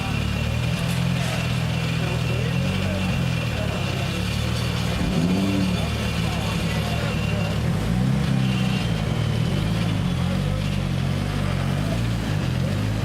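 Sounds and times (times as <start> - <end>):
car engine droning at low revs: 0.0 - 13.0.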